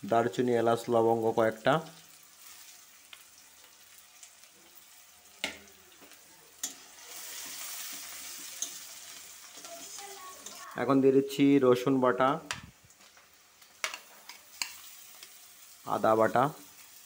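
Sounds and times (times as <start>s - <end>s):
onions sizzling in oil: 0.0s - 17.0s
spatula stirring onions: 1.6s - 10.9s, 12.4s - 17.0s.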